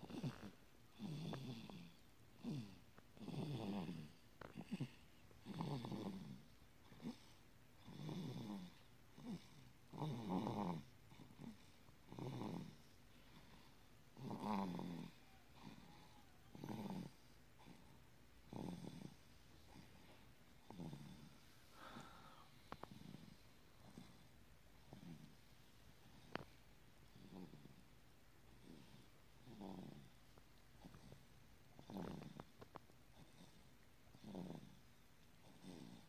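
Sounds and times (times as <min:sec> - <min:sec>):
baby snoring: 0:00.0 - 0:25.4, 0:26.0 - 0:27.8, 0:28.6 - 0:30.2, 0:31.8 - 0:34.8.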